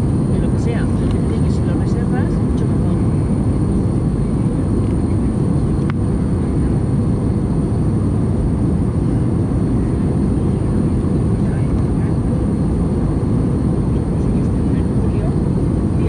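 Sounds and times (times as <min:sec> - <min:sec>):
jet engine and airflow noise: 0:00.0 - 0:16.0.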